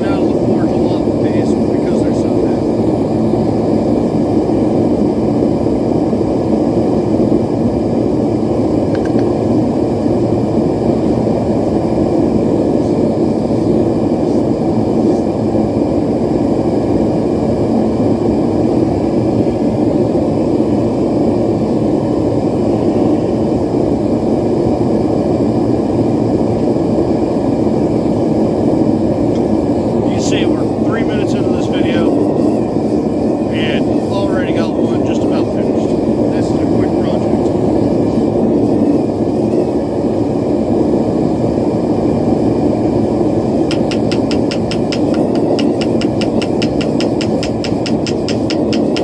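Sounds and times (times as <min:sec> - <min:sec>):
forge burner rushing: 0:00.0 - 0:49.0.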